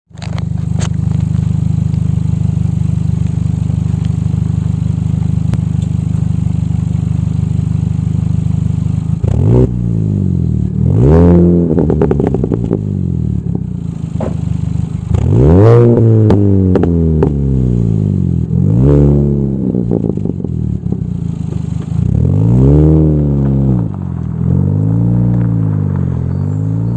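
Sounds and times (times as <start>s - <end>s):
exhaust pops and crackles: 0.1s - 9.8s, 10.6s - 18.5s, 19.7s - 26.9s
car exhaust idling and revving: 0.1s - 26.9s.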